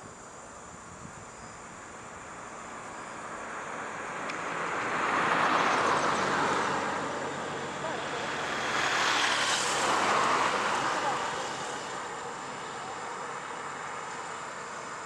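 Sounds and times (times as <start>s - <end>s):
vehicles passing: 1.6s - 15.0s.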